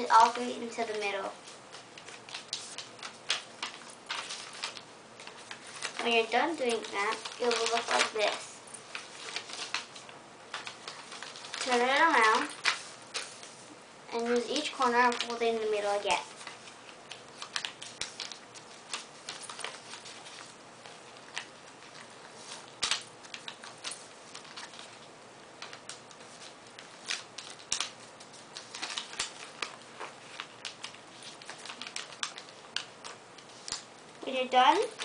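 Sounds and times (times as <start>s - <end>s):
paper crinkling and rustling: 0.0s - 35.0s
paper crackles and taps: 0.1s - 13.6s, 14.2s - 33.9s, 34.6s - 35.0s.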